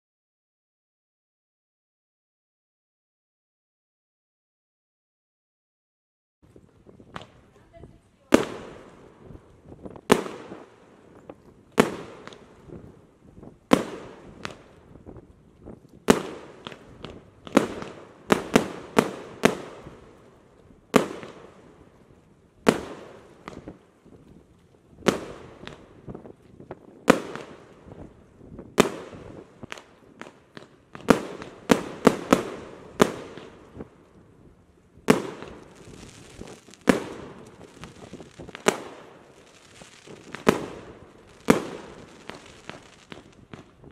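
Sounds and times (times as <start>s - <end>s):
fireworks bangs: 7.0s - 43.9s.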